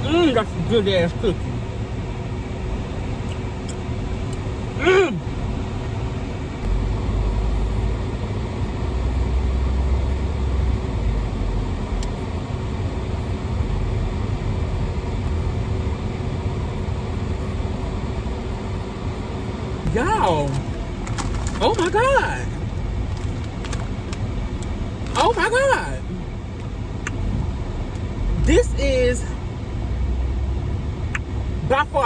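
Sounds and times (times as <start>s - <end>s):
low rumble inside car: 0.0s - 32.0s.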